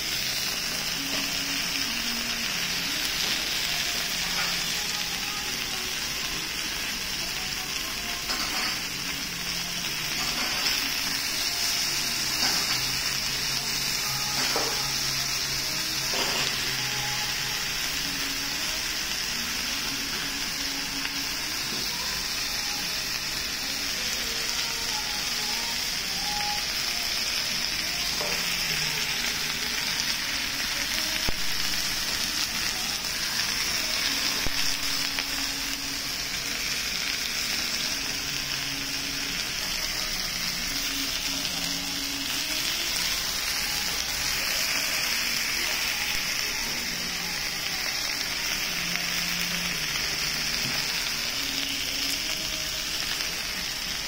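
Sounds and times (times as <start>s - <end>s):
meat and vegetables sizzling: 0.0s - 54.0s.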